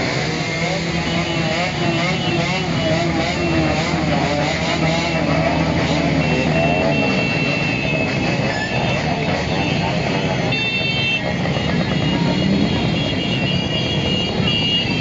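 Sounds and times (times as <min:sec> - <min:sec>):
motorcycle engines revving: 0:00.0 - 0:15.0
steady horn tone: 0:00.0 - 0:15.0.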